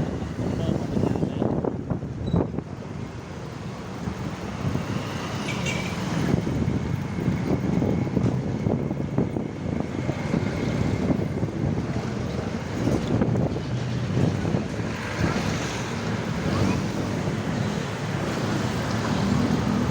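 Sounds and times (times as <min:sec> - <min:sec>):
road traffic noise: 0:00.0 - 0:19.9
wind rumbling on microphone: 0:00.0 - 0:19.9.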